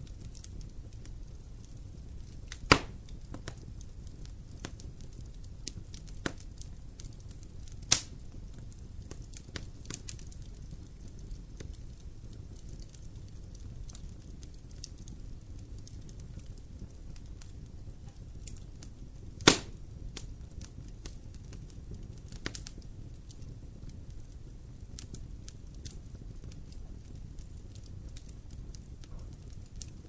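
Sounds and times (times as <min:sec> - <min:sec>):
burning logs popping: 0:00.0 - 0:30.0
wood fire crackling: 0:00.0 - 0:30.0.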